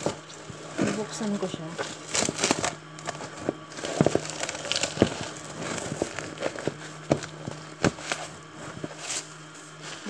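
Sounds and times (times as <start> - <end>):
plastic covering crinkling: 0.0 - 10.0.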